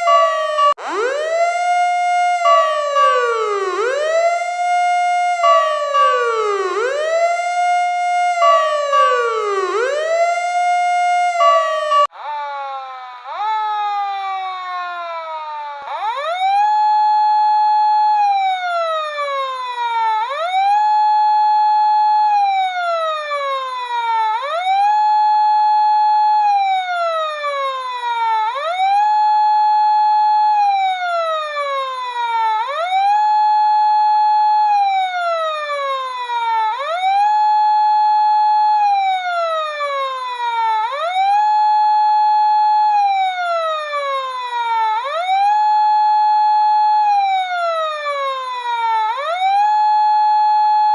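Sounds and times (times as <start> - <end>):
emergency siren wailing: 0.0 - 50.9.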